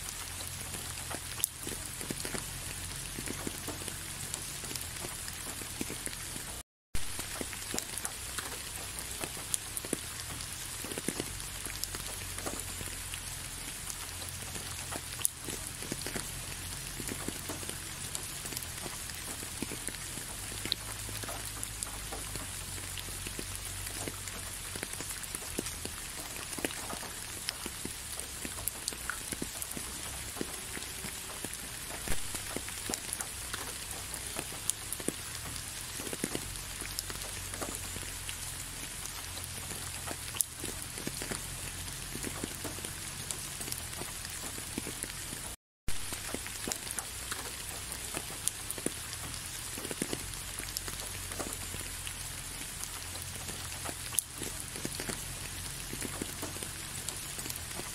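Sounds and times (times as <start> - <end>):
raindrops ticking close by: 0.0 - 57.9
steady rain: 0.0 - 57.9.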